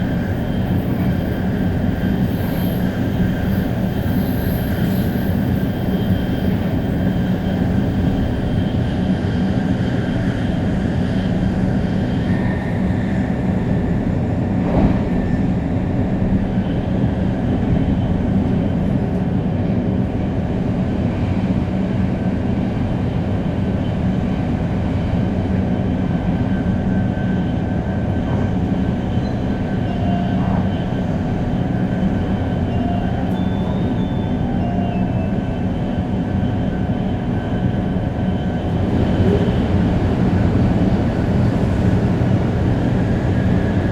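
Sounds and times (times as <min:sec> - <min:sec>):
train running rumble: 0:00.0 - 0:43.9.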